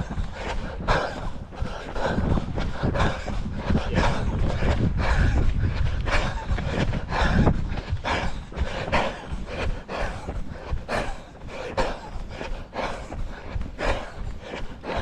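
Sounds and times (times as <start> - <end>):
runner panting hard: 0.0 - 15.0.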